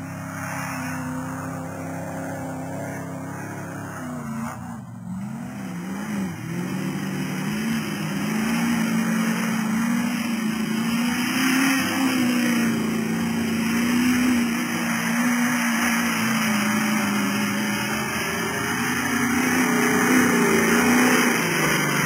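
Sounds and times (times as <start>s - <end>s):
off-road truck engine revving: 0.0s - 22.0s.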